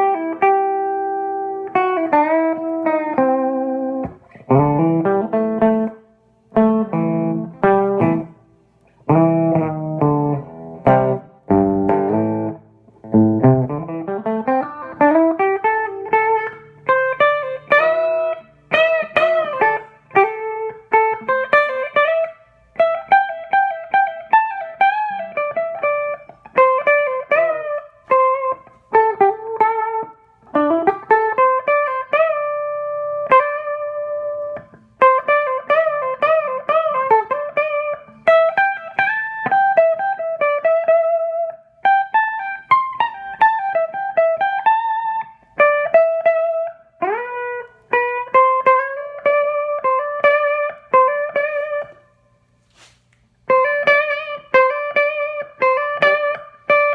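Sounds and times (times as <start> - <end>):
electric guitar lead lines: 0.0 - 52.4, 53.4 - 56.9.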